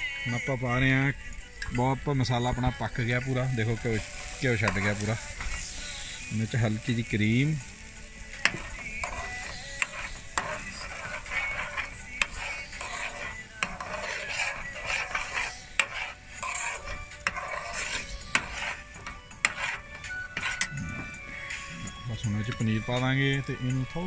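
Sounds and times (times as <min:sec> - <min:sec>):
light sizzle: 0:00.0 - 0:24.0
spoon scraping pan: 0:02.5 - 0:23.7.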